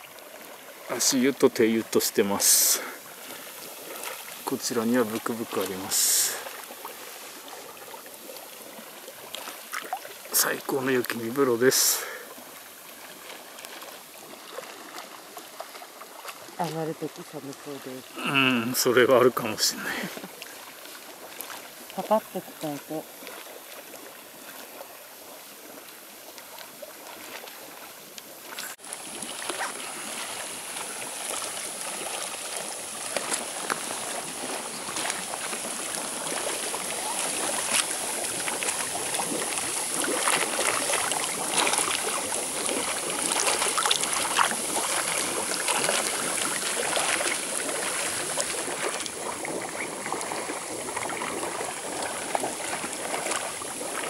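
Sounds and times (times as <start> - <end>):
water bubbling and splashing: 0.0 - 54.0.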